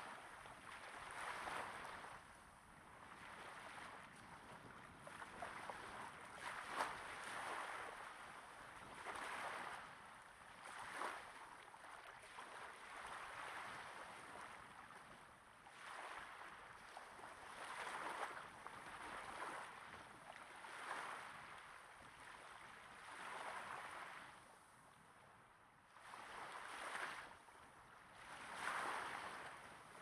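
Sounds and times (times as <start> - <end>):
small waves washing on sand: 0.0 - 25.3, 25.9 - 30.0.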